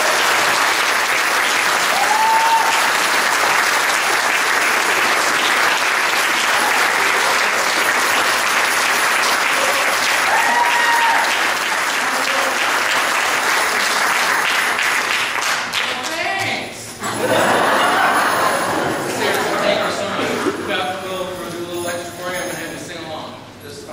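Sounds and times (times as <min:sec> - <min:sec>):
audience applauding: 0:00.0 - 0:20.7.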